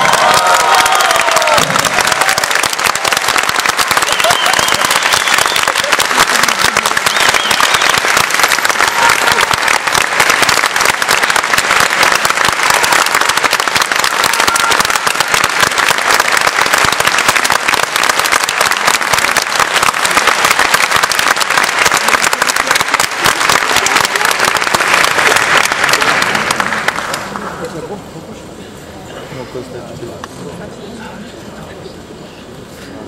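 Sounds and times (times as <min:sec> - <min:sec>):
audience applauding: 0:00.0 - 0:27.7.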